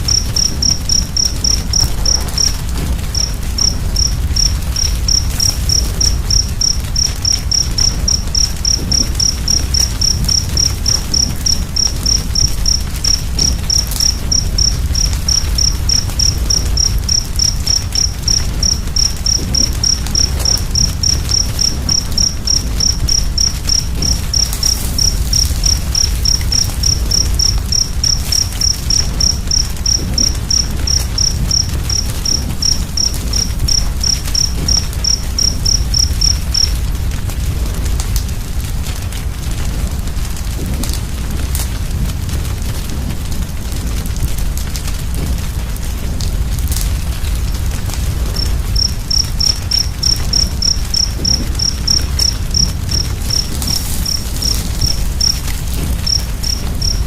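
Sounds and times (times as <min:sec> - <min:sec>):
cricket chirping: 0:00.0 - 0:38.3, 0:44.8 - 0:57.0
wood fire rumble and crackle: 0:00.0 - 0:57.0.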